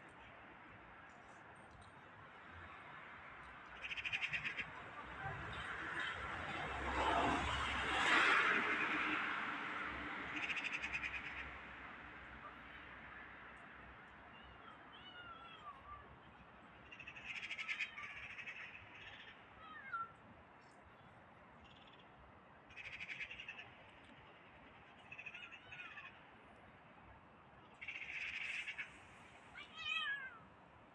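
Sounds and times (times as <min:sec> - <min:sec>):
faint outdoor background: 0:00.0 - 0:30.9.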